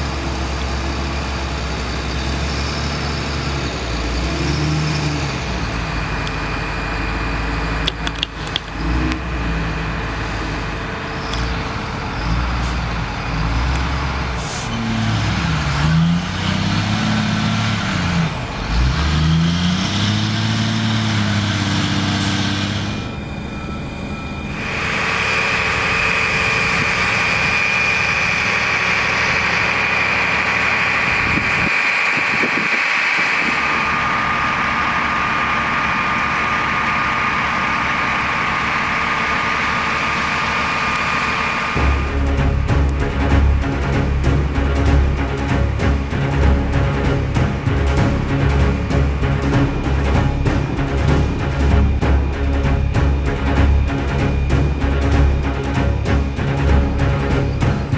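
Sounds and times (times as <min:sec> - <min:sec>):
high whine: 0:00.0 - 0:57.9
truck engines running: 0:00.0 - 0:57.9.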